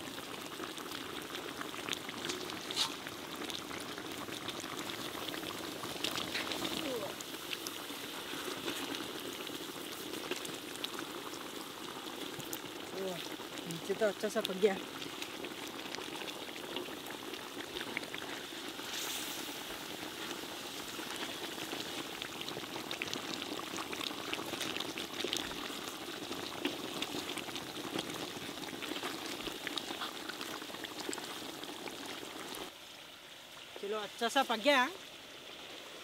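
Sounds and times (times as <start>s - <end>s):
chicken sizzling in thick sauce: 0.0s - 36.0s.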